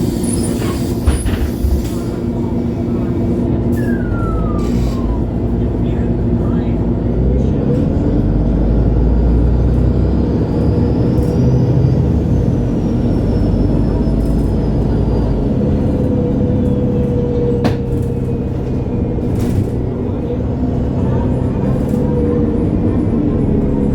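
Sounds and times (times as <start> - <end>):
bus engine running: 0.0 - 23.9.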